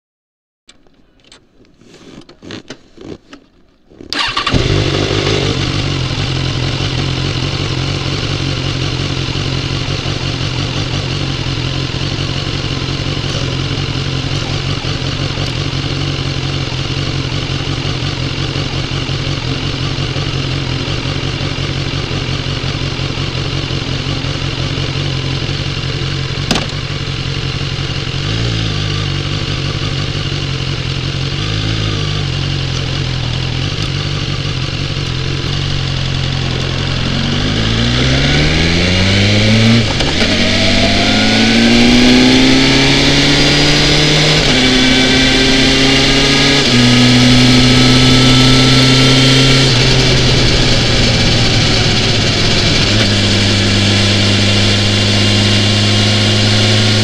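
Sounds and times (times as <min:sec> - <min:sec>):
motorcycle engine starting and idling: 0:00.7 - 0:57.0.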